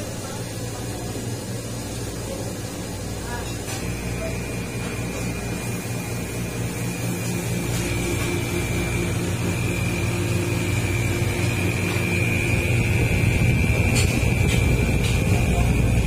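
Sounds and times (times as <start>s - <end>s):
compressor humming: 0.0s - 16.0s
fan motor whine: 0.0s - 16.0s.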